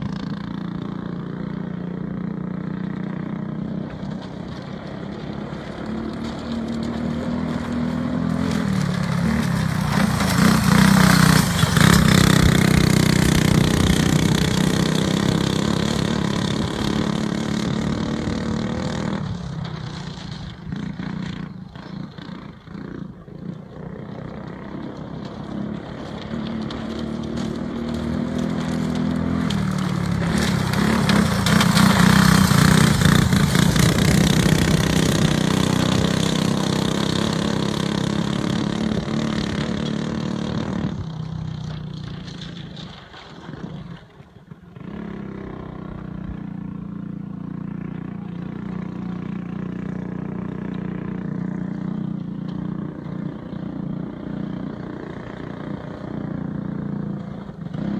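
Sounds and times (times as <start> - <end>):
go-kart engine running: 0.0 - 57.9.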